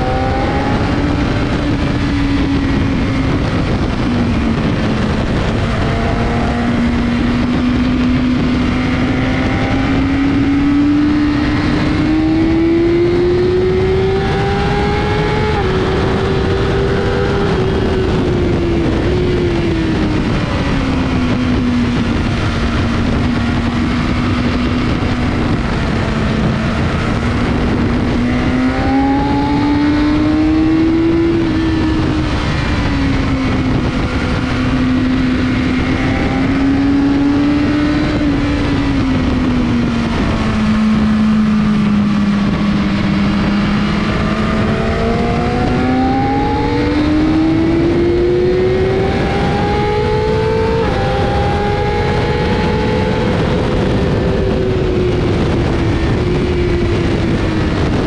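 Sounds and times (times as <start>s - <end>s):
sport bike engine revving: 0.0s - 58.0s
wind rush on microphone: 0.0s - 58.0s.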